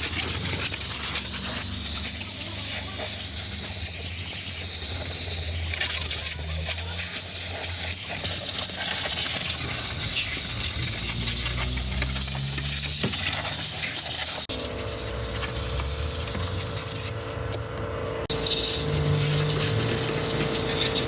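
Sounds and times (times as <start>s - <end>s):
cleaning spray hissing: 0.0s - 21.0s.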